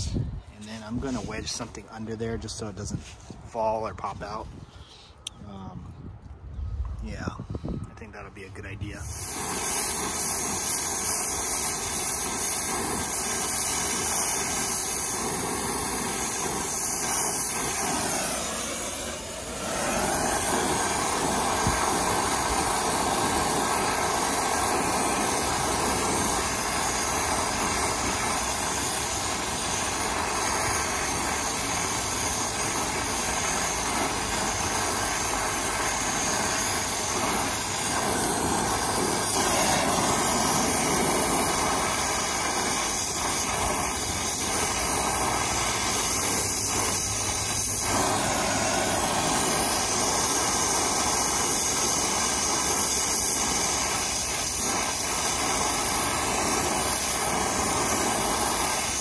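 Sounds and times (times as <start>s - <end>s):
brazing torch hissing: 0.0s - 5.6s, 7.1s - 59.0s.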